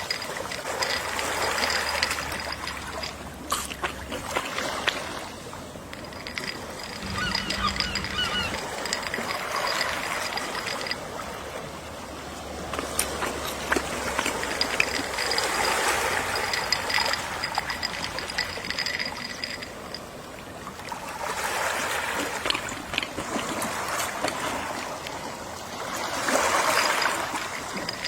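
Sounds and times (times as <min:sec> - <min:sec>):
sea waves washing ashore: 0:00.0 - 0:28.0.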